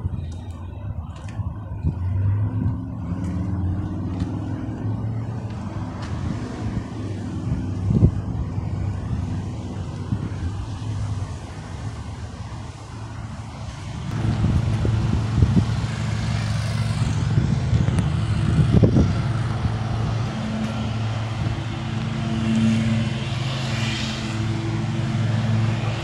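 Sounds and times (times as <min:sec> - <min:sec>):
engine running low hum: 0:00.0 - 0:26.0.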